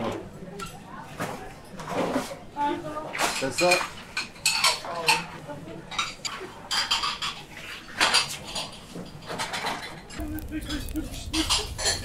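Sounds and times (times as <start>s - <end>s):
dishes and utensils clattering: 0.0s - 12.0s.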